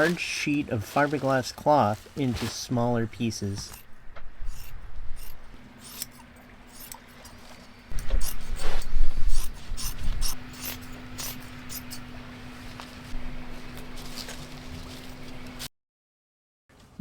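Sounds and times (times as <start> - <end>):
steady low hum: 2.0 - 15.7.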